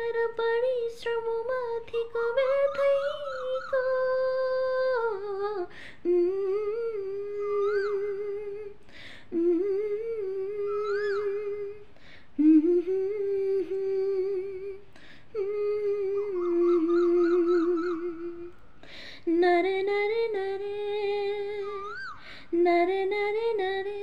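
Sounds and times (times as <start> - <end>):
woman humming a folk melody: 0.0 - 24.0.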